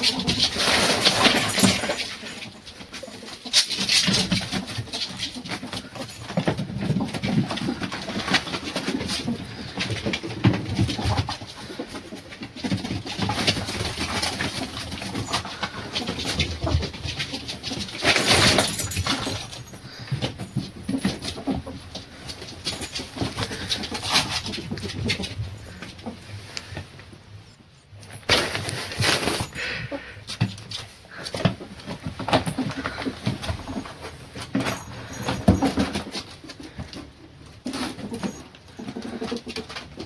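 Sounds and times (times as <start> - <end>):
rustling: 0.0 - 40.0.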